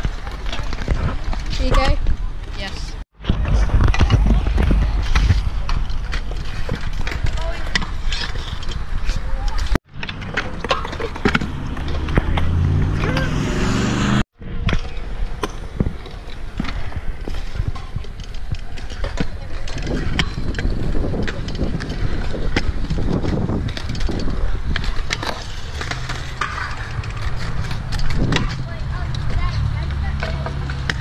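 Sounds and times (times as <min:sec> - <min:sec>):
scooters clacking on concrete: 0:00.0 - 0:13.3, 0:14.6 - 0:31.0
scooter wheels rolling on concrete: 0:00.0 - 0:13.4, 0:14.4 - 0:31.0.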